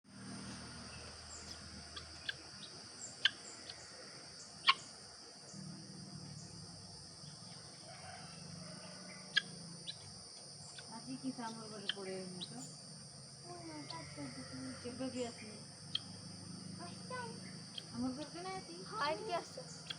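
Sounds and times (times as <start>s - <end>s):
high insect drone: 0.0s - 19.9s
birds chirping: 0.8s - 7.7s, 8.9s - 19.9s.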